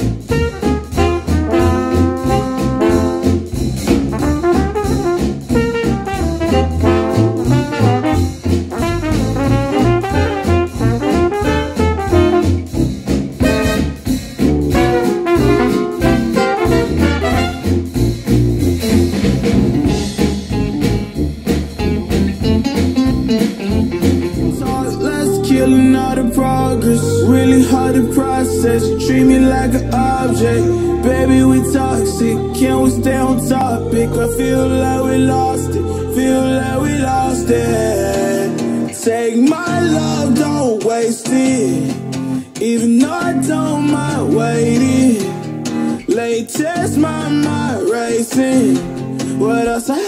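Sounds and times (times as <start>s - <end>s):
jazz band with brass horns: 0.0s - 40.6s, 43.9s - 46.0s.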